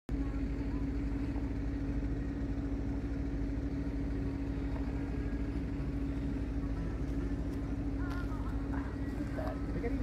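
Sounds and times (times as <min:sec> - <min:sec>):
low rumble: 0:00.1 - 0:10.0
steady mechanical hum: 0:00.1 - 0:10.0.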